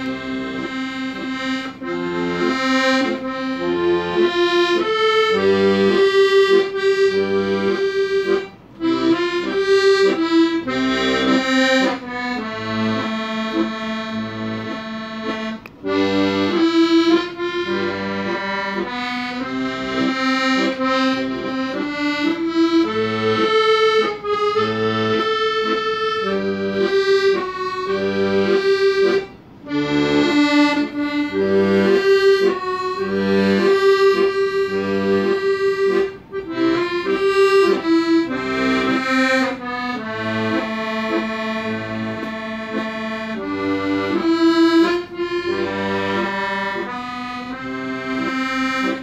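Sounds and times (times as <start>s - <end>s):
reedy melody: 0.0s - 49.0s.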